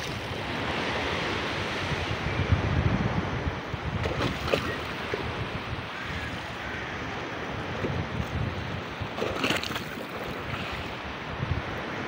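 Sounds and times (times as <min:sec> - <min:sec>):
sea surf washing ashore: 0:00.0 - 0:12.0
wind buffeting microphone: 0:00.0 - 0:12.0.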